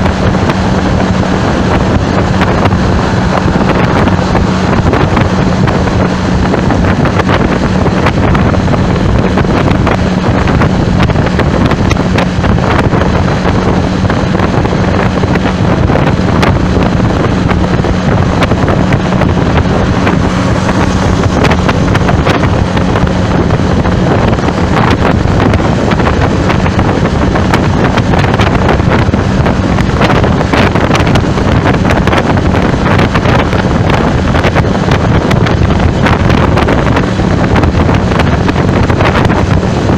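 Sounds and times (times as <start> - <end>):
low hum of traffic: 0.0 - 39.9
wind buffeting microphone: 0.0 - 39.9.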